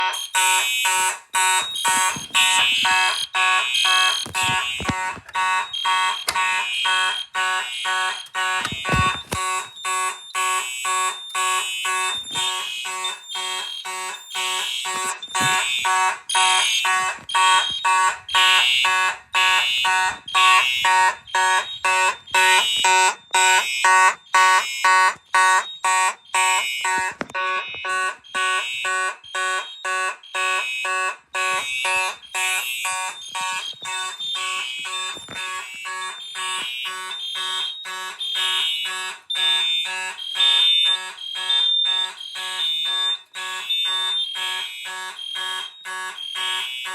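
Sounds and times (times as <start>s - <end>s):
fire alarm horns pulsing: 0.0s - 46.9s.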